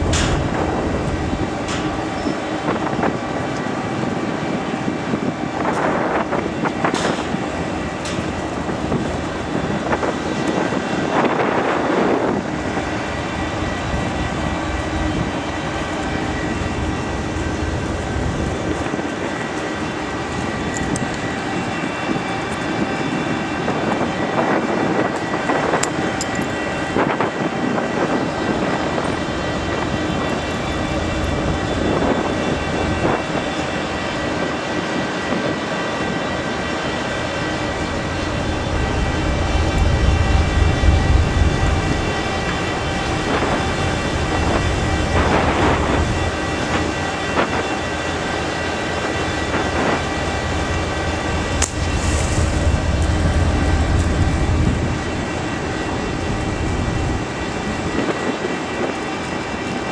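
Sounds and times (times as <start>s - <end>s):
whooshing gusts: 0.0s - 59.2s
ferry engine drone: 0.0s - 59.9s.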